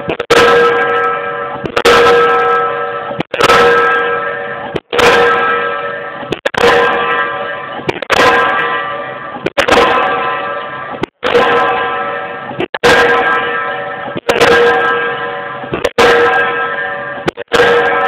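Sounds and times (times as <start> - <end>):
pile hammer bangs with metallic ringing: 0.0 - 18.0.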